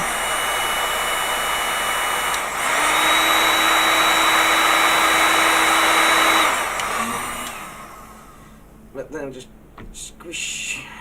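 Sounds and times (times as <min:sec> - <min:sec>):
hot-air blower running: 0:00.0 - 0:10.8.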